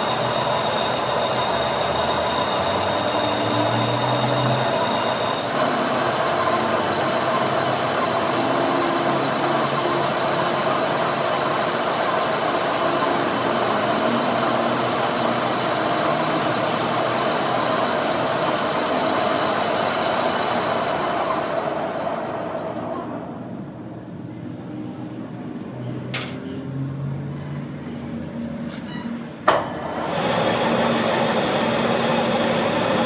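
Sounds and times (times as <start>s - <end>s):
machine grinding and rumbling: 0.0s - 23.8s, 29.4s - 33.0s.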